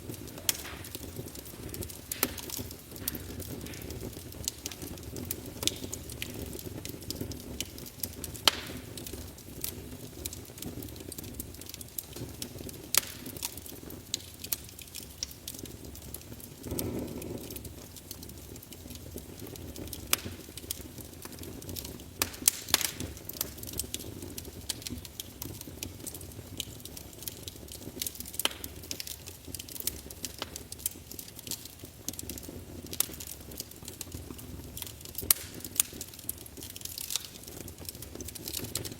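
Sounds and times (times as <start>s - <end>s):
fire burning in fireplace: 0.0s - 38.9s
fire crackling and popping: 0.0s - 38.9s.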